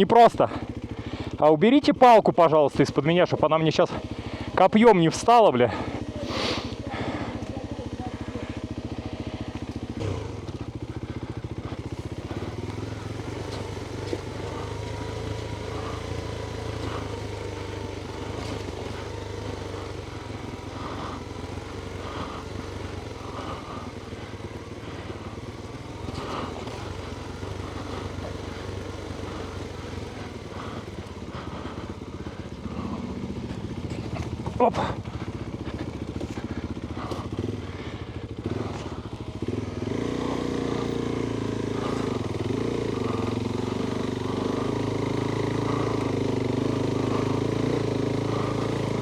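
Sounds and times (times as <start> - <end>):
motorcycle engine at low revs: 0.0 - 49.0.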